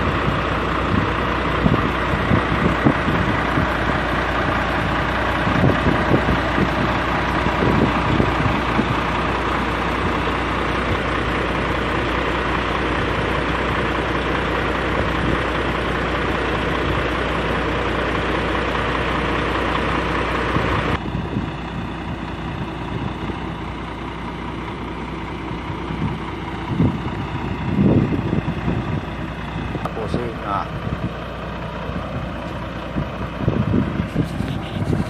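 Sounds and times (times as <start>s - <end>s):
diesel truck engine idling: 0.0s - 35.0s.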